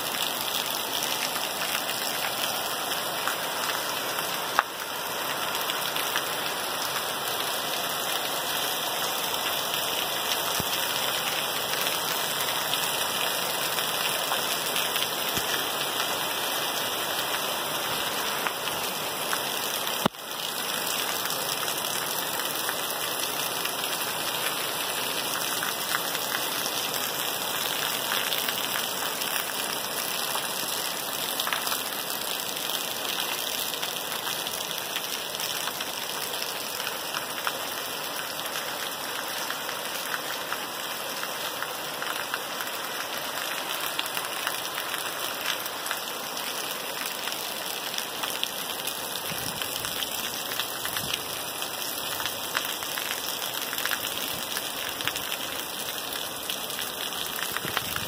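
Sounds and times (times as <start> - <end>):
heavy rain on wet pavement: 0.0 - 58.0.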